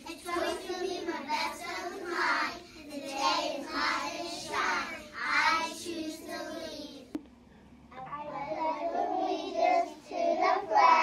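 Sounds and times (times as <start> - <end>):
children reciting in unison: 0.0 - 7.0, 8.2 - 11.0.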